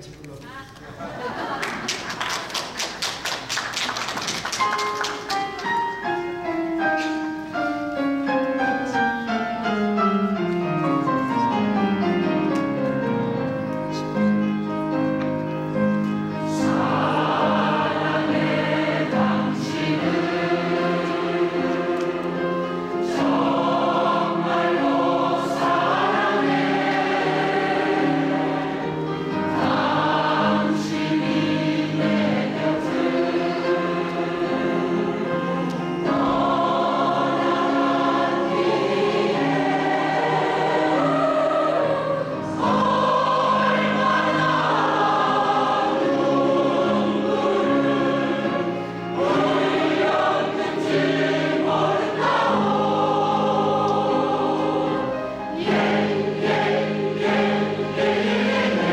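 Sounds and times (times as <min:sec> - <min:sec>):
women's choir singing in harmony: 0:01.0 - 0:58.9
piano accompaniment: 0:01.7 - 0:58.9.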